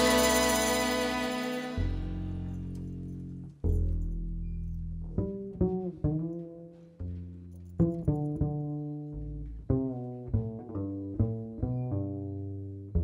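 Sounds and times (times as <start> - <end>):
plucked low strings: 0.0 - 13.0.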